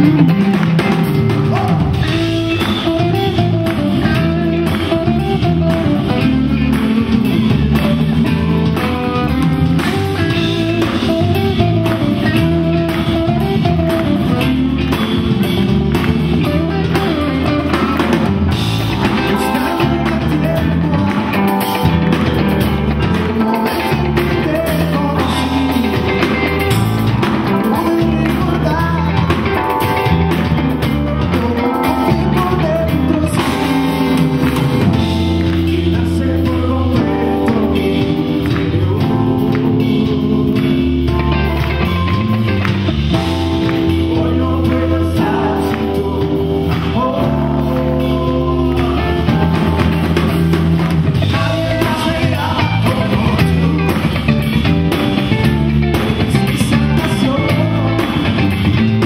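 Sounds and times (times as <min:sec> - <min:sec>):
person singing: 0:00.0 - 0:42.4, 0:43.1 - 0:59.0
bass guitar: 0:00.0 - 0:59.0
drum kit steady beat: 0:00.0 - 0:59.0
electric guitars: 0:00.0 - 0:59.0.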